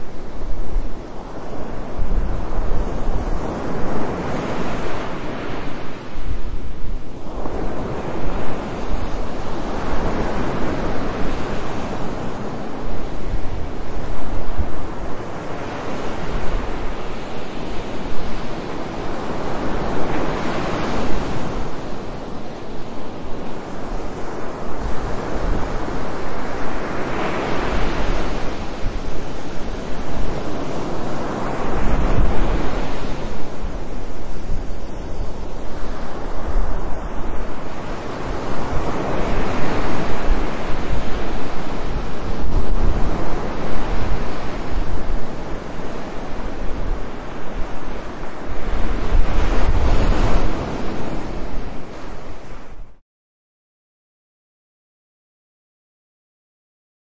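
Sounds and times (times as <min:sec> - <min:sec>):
waves breaking on shore: 0:00.0 - 0:53.0
wind on microphone: 0:00.0 - 0:53.0.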